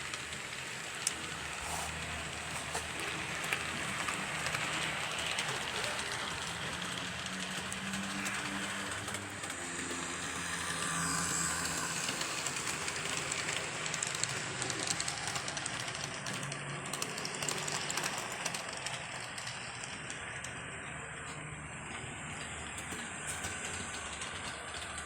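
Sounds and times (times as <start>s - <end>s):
model train motor hum: 0.0s - 25.0s
small wheels rattling: 0.0s - 25.0s
wheels clicking over rail joints: 0.0s - 25.0s.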